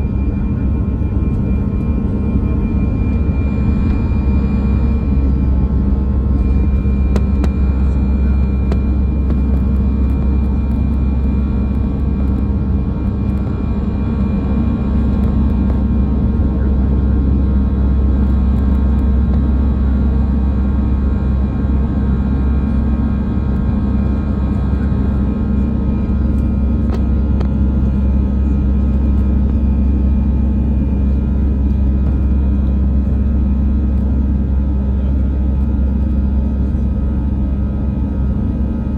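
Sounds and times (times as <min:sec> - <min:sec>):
jet engines and airflow rumble: 0:00.0 - 0:38.9
steady hums: 0:00.0 - 0:38.9.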